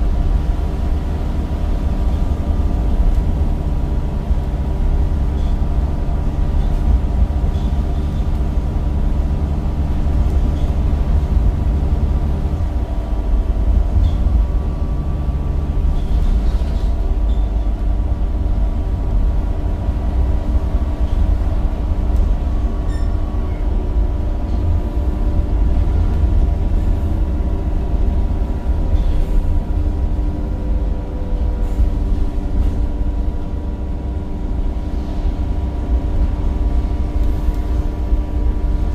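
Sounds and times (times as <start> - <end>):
bus diesel engine rumbling: 0.0 - 38.9.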